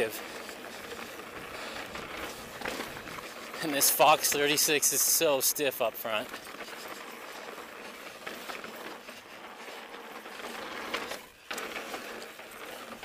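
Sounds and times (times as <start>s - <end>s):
bike mechanical rattle: 0.0s - 13.0s
bike tyres on rocky trail: 0.0s - 13.0s.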